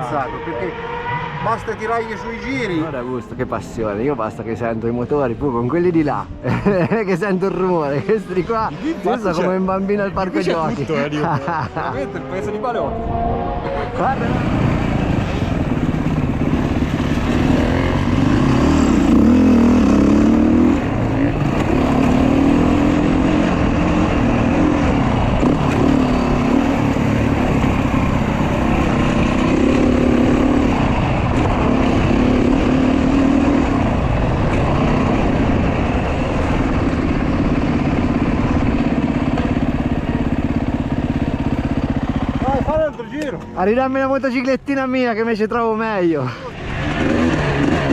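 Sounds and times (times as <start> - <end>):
off-road motorcycle engine revving: 0.0 - 47.9.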